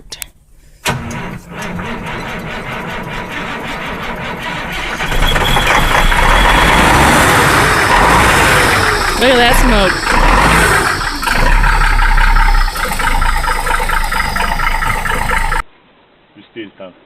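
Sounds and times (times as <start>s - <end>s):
diesel engine running: 0.9s - 15.6s
starter motor cranking: 0.9s - 15.6s.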